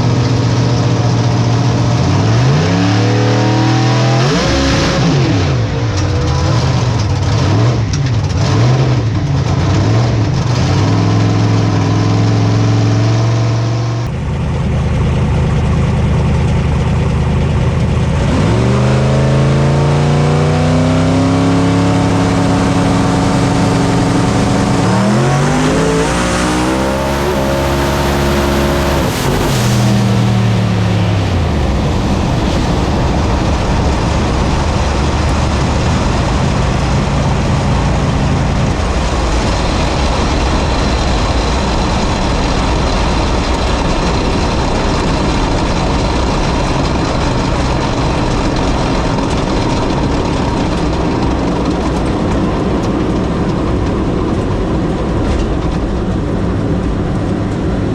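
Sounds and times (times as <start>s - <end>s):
race car engine revving: 0.0s - 57.9s.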